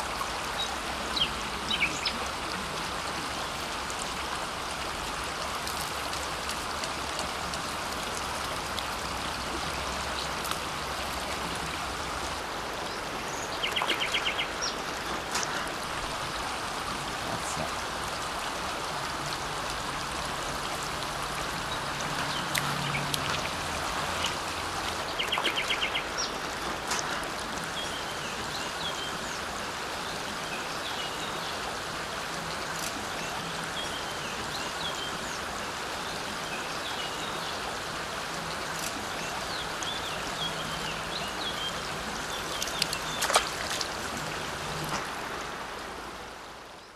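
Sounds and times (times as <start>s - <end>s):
shallow river water running: 0.0s - 46.9s.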